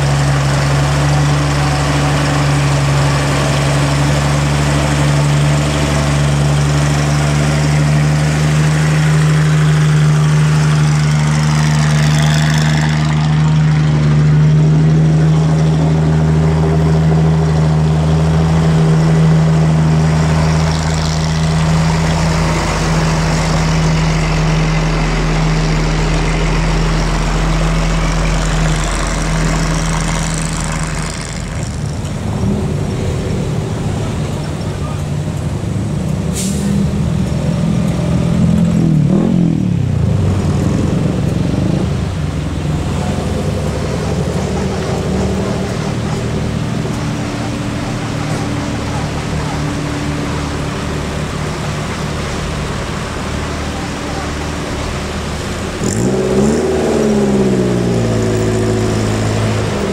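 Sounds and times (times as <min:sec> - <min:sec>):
diesel truck engine idling: 0:00.0 - 0:38.4, 0:39.7 - 0:55.8
vehicles passing slowly: 0:00.0 - 0:59.9.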